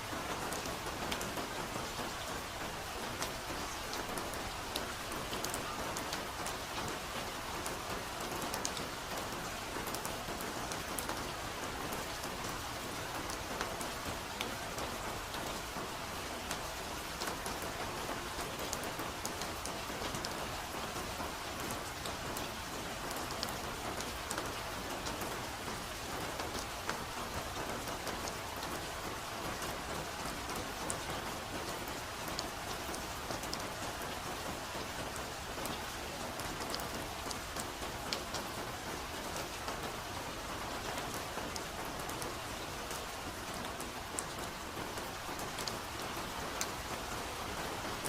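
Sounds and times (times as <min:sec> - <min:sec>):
soft rain hiss: 0:00.0 - 0:48.0.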